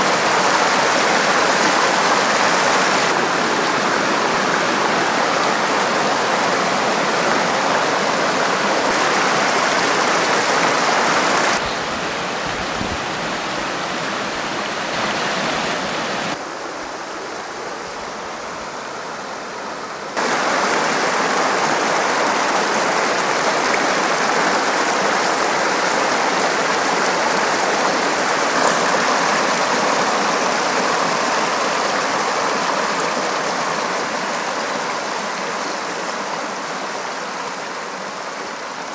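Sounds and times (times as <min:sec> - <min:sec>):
creek rushing over rocks: 0:00.0 - 0:38.9.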